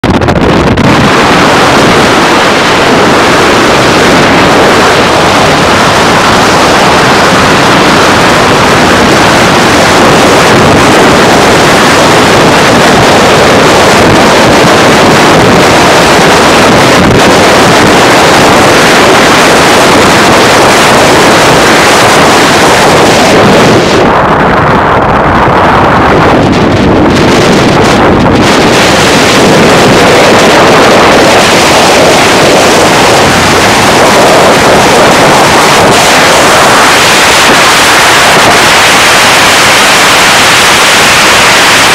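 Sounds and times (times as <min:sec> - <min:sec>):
car road noise at highway speed: 0:00.0 - 0:41.9
wind rushing over microphone: 0:00.0 - 0:41.9.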